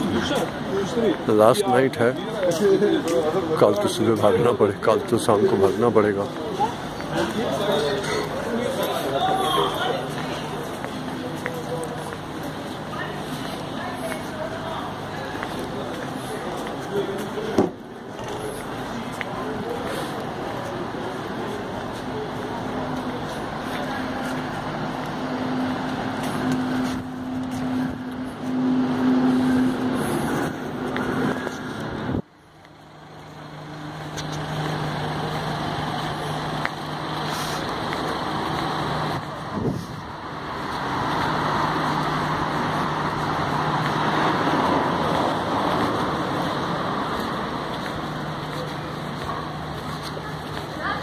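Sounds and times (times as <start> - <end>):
road traffic: 0.0 - 51.0.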